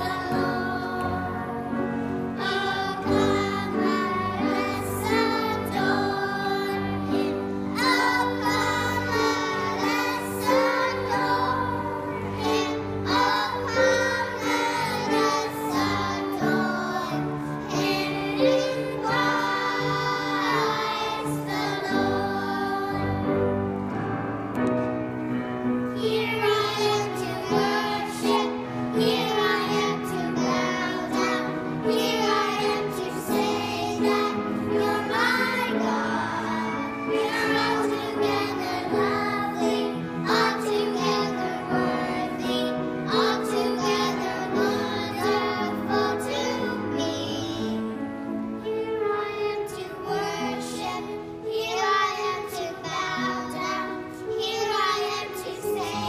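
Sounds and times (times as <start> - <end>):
children singing: 0.0 - 23.8, 26.0 - 56.0.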